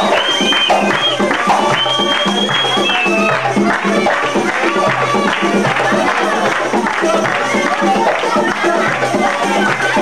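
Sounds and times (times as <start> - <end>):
hand drum: 0.0 - 10.0
high held melody: 0.0 - 10.0
tambourine: 0.0 - 10.0.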